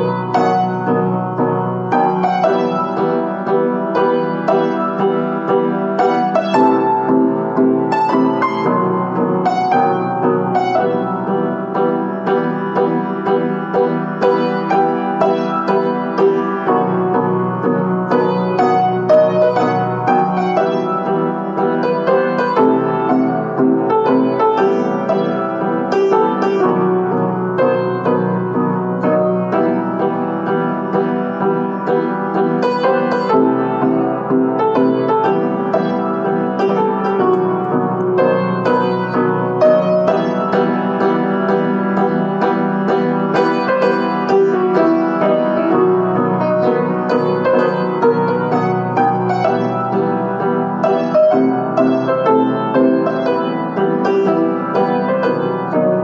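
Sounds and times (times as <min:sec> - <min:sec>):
solo piano piece: 0:00.0 - 0:56.0.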